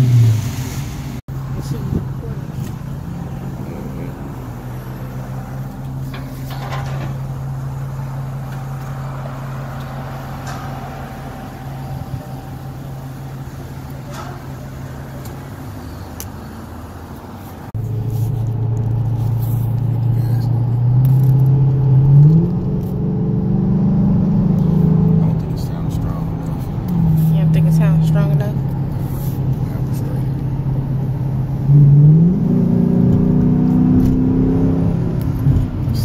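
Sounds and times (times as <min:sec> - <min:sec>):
car engine idling: 0:00.0 - 0:21.8, 0:24.6 - 0:31.8
car engine revving: 0:00.0 - 0:36.0.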